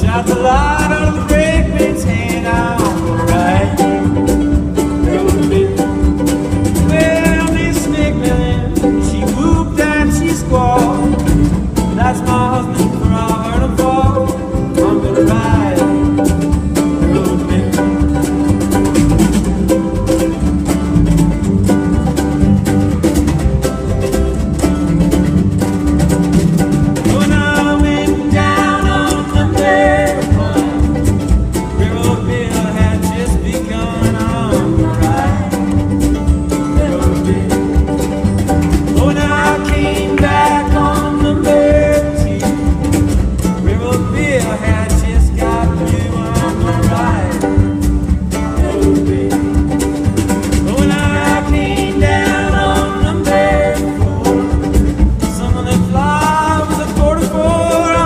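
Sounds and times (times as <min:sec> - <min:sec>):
acoustic bluegrass band playing: 0:00.0 - 0:58.0
sliding melodic lines: 0:00.0 - 0:58.0.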